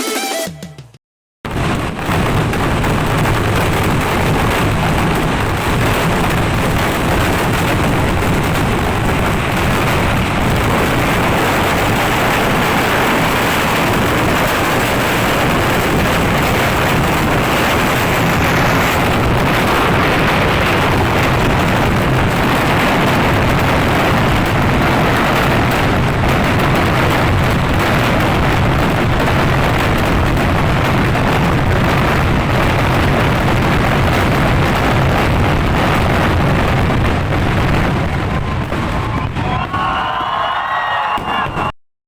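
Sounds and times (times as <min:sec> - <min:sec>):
fireworks exploding and crackling: 0:01.5 - 0:41.8.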